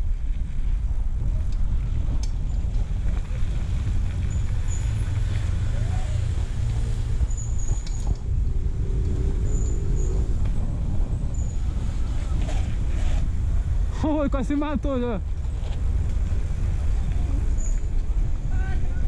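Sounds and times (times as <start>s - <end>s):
bicycle riding rumble: 0.0s - 19.0s
wind buffeting microphone: 0.0s - 19.0s.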